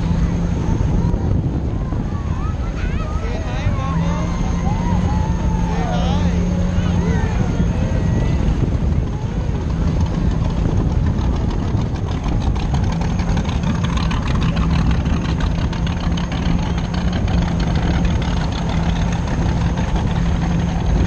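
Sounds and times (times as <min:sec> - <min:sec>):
water rushing and splashing: 0:00.0 - 0:21.0
watercraft engine droning: 0:00.0 - 0:21.0.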